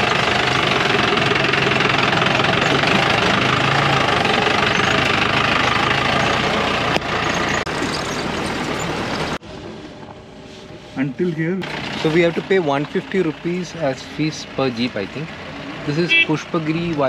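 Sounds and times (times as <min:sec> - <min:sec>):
jeep engine running off-road: 0:00.0 - 0:10.3, 0:11.0 - 0:17.0.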